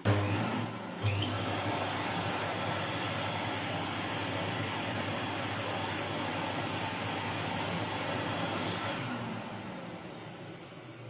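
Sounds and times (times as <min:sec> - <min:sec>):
vacuum cleaner motor running: 0:00.0 - 0:11.0.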